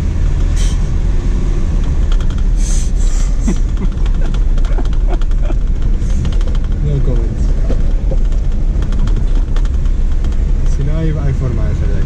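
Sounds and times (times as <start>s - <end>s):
vehicle low rumble: 0.0s - 12.0s
vehicle rattling clicks and knocks: 0.0s - 12.0s.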